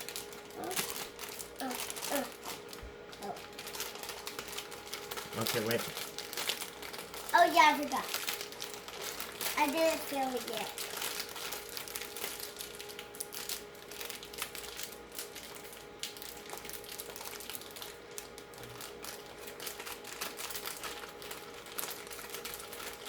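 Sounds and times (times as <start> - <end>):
plastic foil bag crinkling: 0.0 - 23.0.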